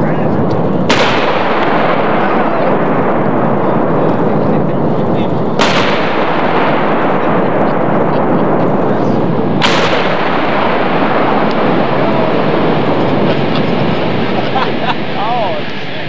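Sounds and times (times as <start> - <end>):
demolition charge blast: 0.0 - 16.0
loud steady rushing noise: 0.0 - 16.0.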